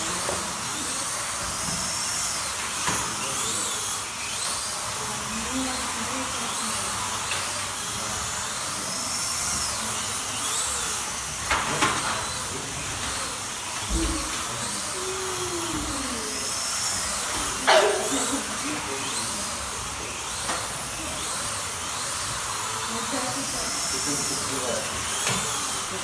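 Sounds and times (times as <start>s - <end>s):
slot car motors whining: 0.0s - 26.0s.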